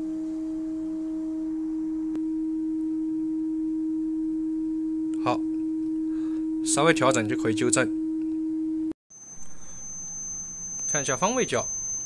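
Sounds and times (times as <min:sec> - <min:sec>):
steady reference tone: 0:00.0 - 0:12.0.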